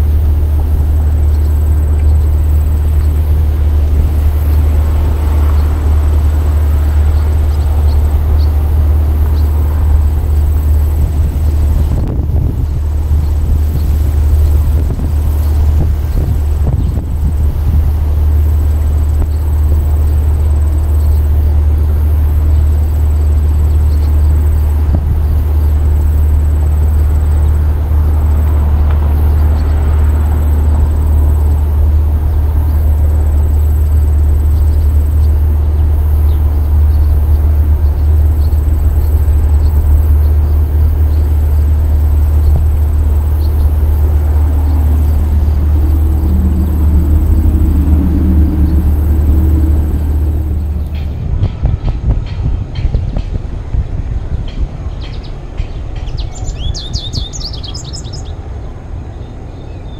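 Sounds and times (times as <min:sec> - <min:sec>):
loud low rumble: 0:00.0 - 0:54.2
faint humming tones: 0:00.0 - 0:59.9.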